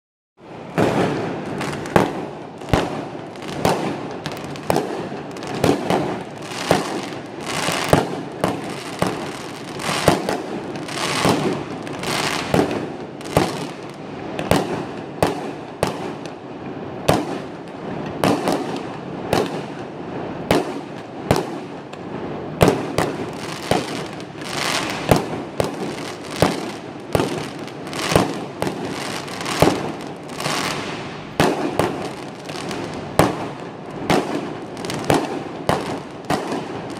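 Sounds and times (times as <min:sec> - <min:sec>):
fireworks banging: 0:00.5 - 0:36.9.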